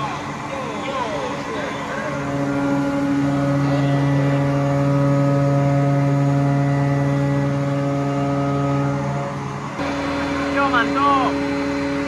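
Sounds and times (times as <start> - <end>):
hydraulic pump humming: 0.0 - 12.0.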